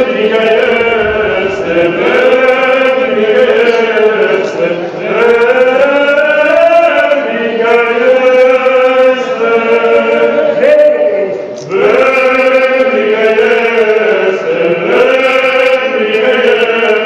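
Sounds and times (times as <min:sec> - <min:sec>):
male choir chanting: 0:00.0 - 0:17.0.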